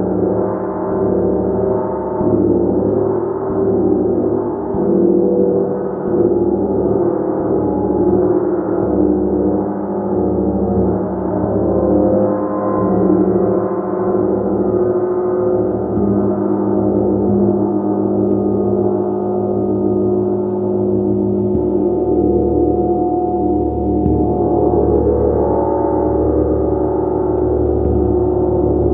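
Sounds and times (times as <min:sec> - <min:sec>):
gong droning: 0:00.0 - 0:28.9.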